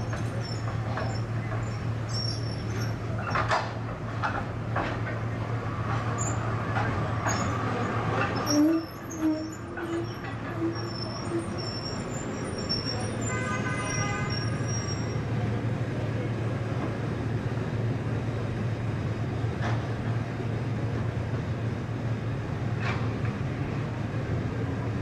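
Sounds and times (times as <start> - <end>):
city street traffic: 0.0 - 25.0
trams running: 0.0 - 25.0.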